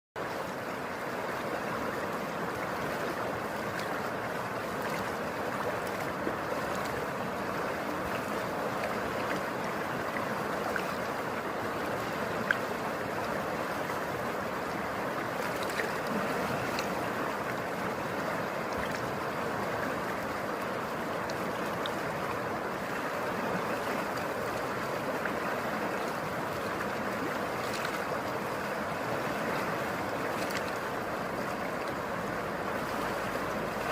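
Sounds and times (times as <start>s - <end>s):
river water rushing: 0.2s - 33.9s.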